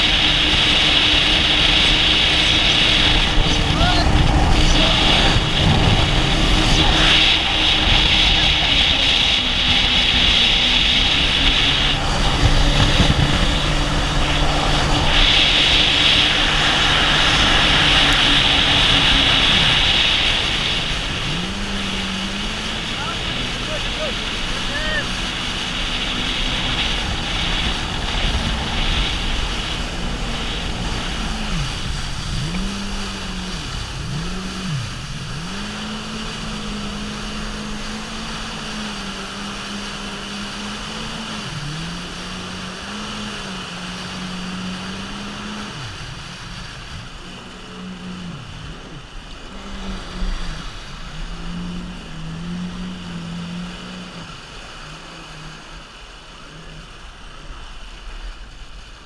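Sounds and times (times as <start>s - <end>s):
jet ski engine revving: 0.0s - 59.0s
water rushing against hull: 0.0s - 59.0s.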